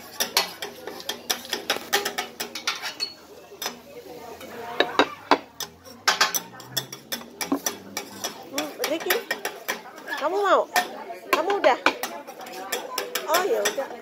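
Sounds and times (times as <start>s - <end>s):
metal spatulas clacking on griddle: 0.0s - 14.0s.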